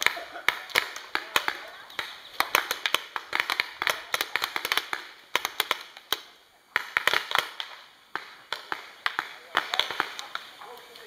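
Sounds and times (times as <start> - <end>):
paintball markers popping: 0.0 - 10.9.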